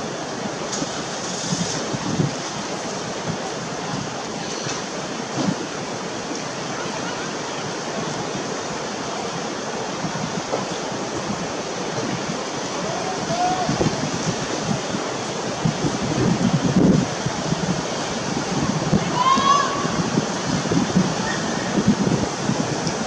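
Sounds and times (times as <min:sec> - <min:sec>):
wind rushing noise: 0:00.0 - 0:06.3, 0:07.6 - 0:23.0.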